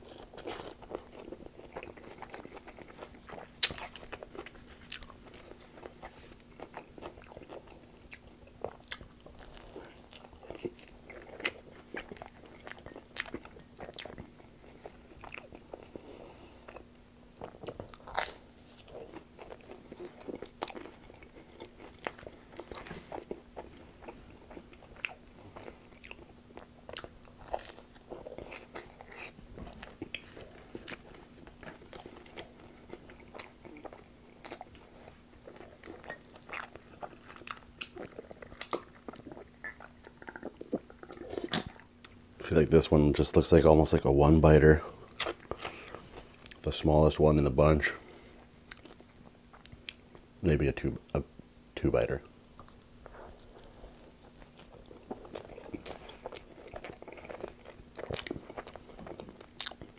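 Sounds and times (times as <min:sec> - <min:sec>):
chewing and crunching crust: 0:00.0 - 0:51.2, 0:51.8 - 0:59.9.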